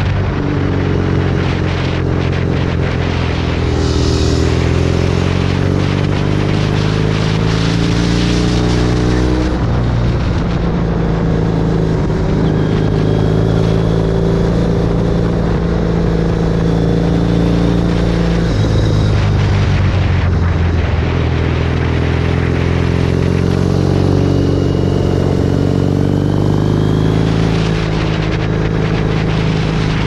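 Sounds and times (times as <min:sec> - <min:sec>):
motorcycle engine and exhaust cruising: 0:00.0 - 0:30.0
wind rush: 0:00.0 - 0:30.0.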